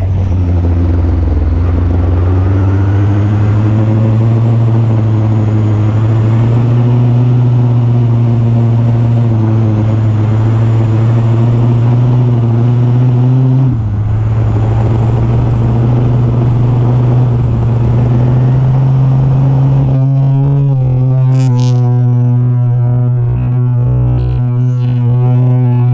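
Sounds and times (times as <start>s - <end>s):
small two-stroke engine revving: 0.0s - 25.9s.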